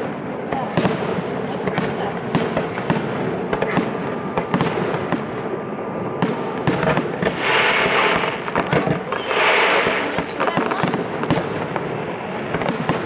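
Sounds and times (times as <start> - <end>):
fireworks bangs and crackling: 0.0 - 13.0
hissing crackle of fireworks: 0.0 - 13.0.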